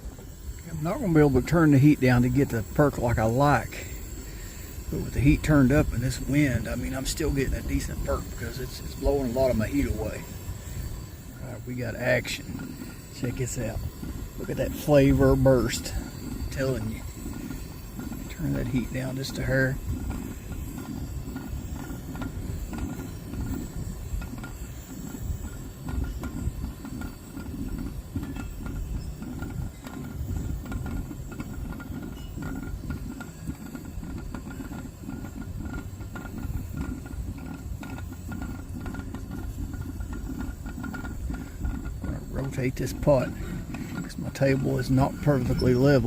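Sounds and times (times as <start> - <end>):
wind buffeting microphone: 0.0 - 46.0
percolator perking: 0.2 - 46.0.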